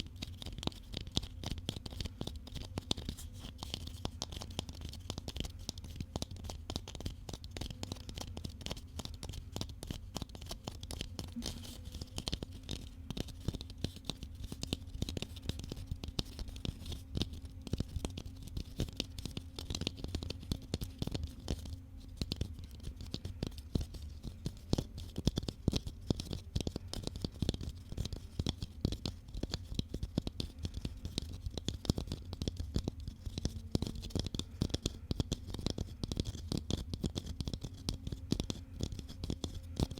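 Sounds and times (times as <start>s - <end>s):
fast light tapping: 0.1s - 39.9s.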